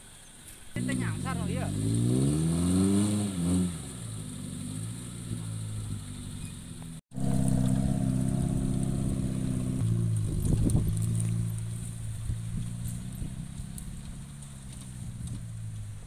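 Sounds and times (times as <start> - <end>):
vehicle engine running: 0.8 - 16.0.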